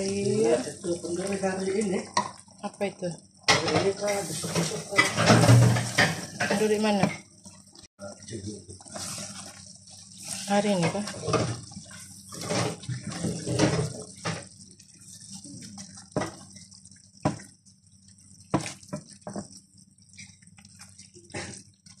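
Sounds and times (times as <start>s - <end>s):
spatula stirring food in sauce: 3.8s - 22.0s.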